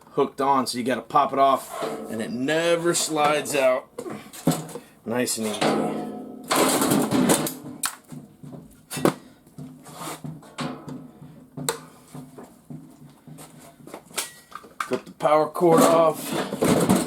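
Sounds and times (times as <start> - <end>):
knocks and clatters of parts: 2.9 - 17.0.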